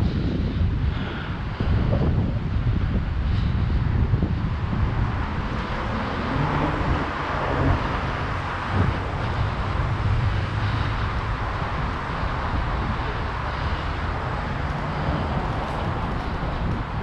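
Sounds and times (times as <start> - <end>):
city traffic: 0.0 - 17.0
road noise: 0.0 - 17.0
vehicle engine hum: 0.0 - 17.0
wind rushing over microphone: 0.0 - 17.0.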